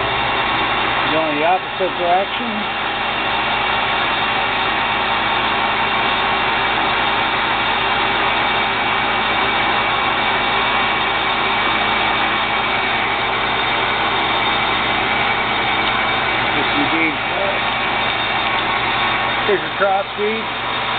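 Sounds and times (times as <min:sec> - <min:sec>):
metal lathe humming: 0:00.0 - 0:20.9.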